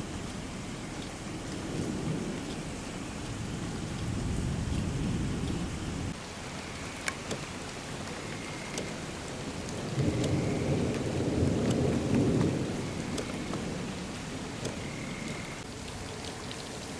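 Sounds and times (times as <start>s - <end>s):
heavy rain: 0.0s - 16.9s
raindrops ticking close by: 0.0s - 16.9s
thunder rumbling: 0.0s - 16.9s.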